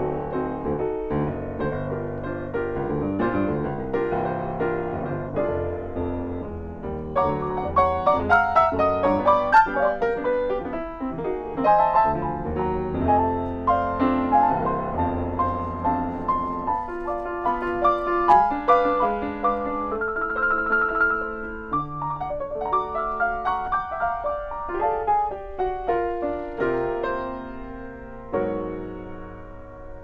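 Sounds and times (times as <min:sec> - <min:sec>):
solo piano melody: 0:00.0 - 0:30.0.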